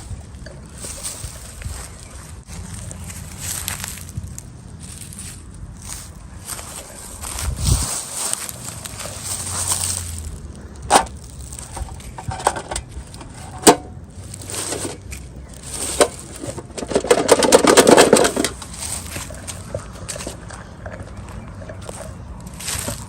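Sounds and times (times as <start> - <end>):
packaging crinkling and crackling: 0.7 - 21.0.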